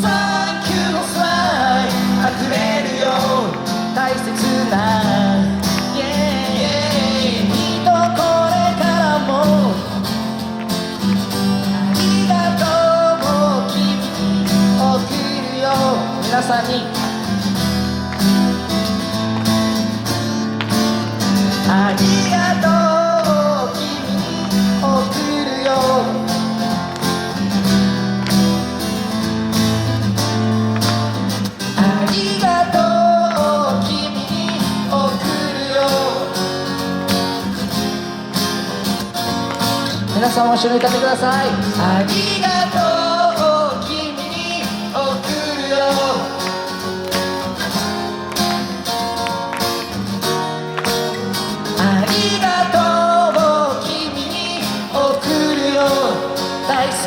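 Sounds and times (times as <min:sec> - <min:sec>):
live band guitars strumming: 0:00.0 - 0:57.0.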